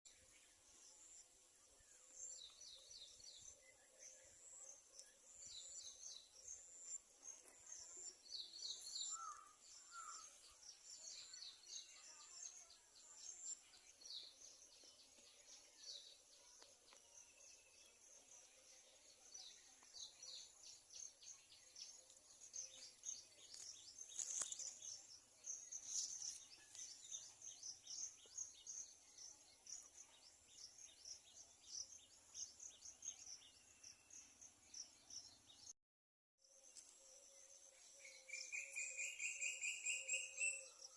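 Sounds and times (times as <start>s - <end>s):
birds chirping: 0.1s - 35.8s.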